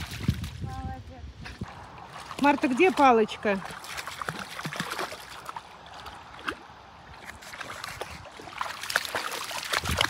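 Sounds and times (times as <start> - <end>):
paws splashing in shallow water: 0.0 - 0.9, 1.5 - 10.0.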